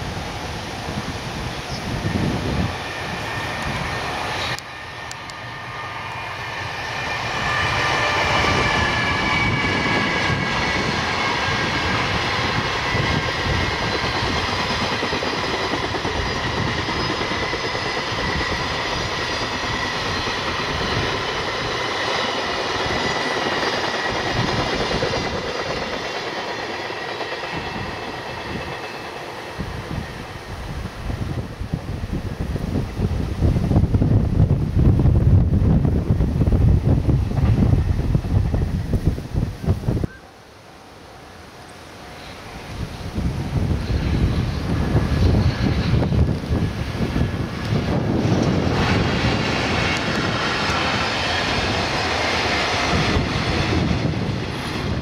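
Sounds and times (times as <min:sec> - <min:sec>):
train wheels rumbling on rail: 0:00.0 - 0:40.2, 0:41.1 - 0:55.0.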